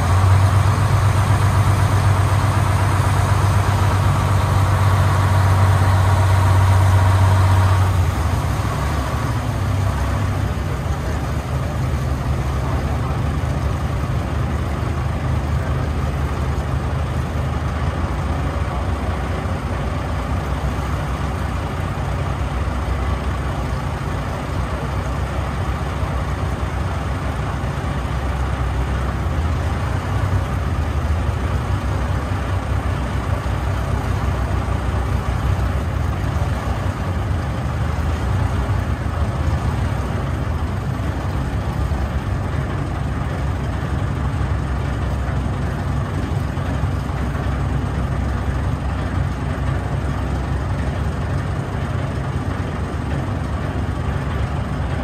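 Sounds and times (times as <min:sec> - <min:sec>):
boat engine rumble: 0:00.0 - 0:55.0
water noise: 0:00.0 - 0:55.0.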